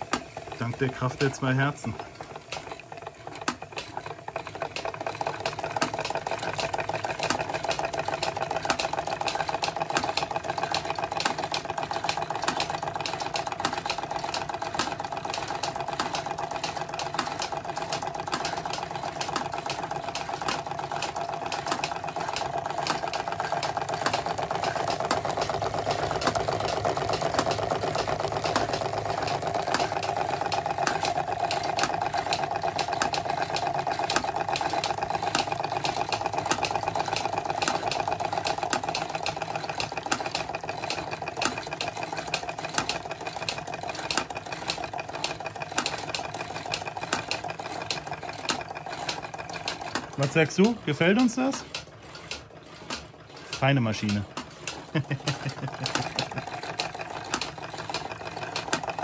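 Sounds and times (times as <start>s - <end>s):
model steam engine ticking clatter: 0.0s - 59.0s.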